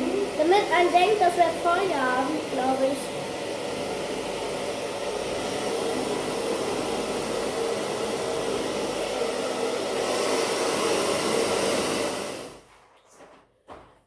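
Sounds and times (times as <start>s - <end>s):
hair dryer blowing: 0.0s - 12.7s.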